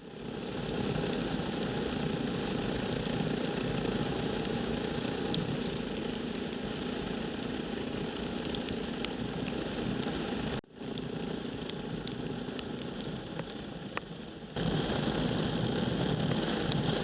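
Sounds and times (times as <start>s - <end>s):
motorcycle engine running: 0.0s - 17.0s
rush of noise: 0.0s - 17.0s.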